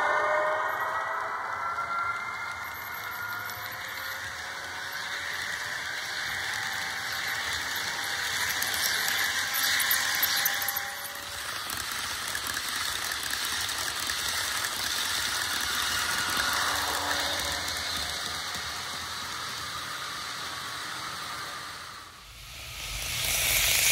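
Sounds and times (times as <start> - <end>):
model train rolling on track: 0.0 - 23.9
model train wheels squealing: 0.0 - 23.9.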